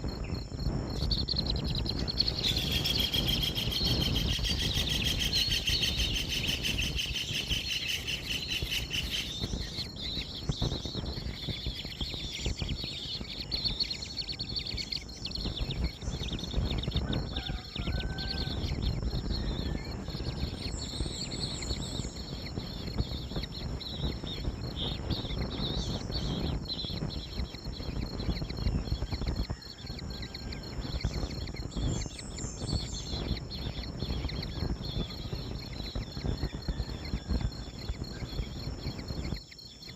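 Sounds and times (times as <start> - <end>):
bird chirps: 0.0 - 39.9
high insect drone: 0.0 - 39.9.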